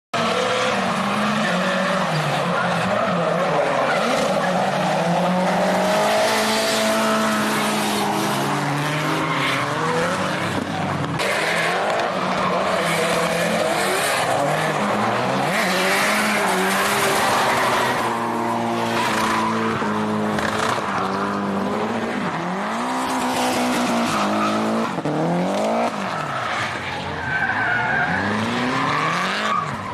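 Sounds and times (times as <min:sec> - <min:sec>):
car engines revving: 0:00.2 - 0:29.9.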